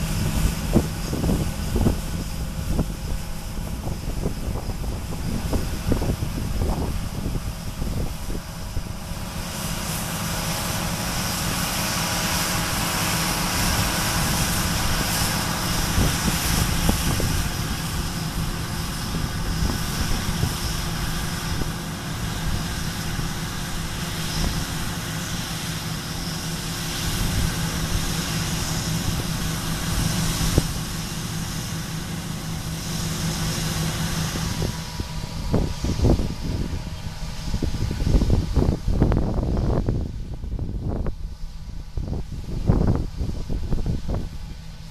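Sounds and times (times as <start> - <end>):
combine harvester engine drone: 0.0 - 44.9.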